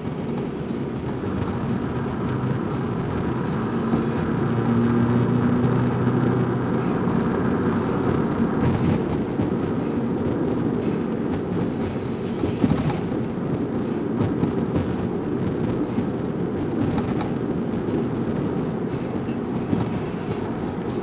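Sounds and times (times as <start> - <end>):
car road noise: 0.0 - 21.0.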